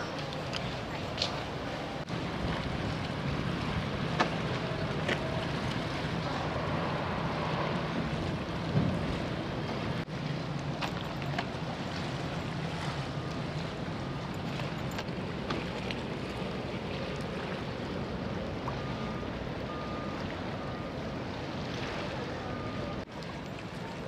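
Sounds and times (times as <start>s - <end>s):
ferry machinery humming: 0.0s - 24.0s.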